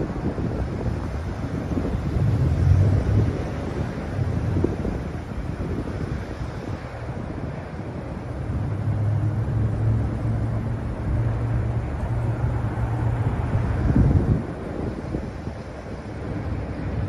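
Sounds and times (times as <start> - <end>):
low engine hum: 0.0 - 17.0
wind on microphone: 0.0 - 17.0.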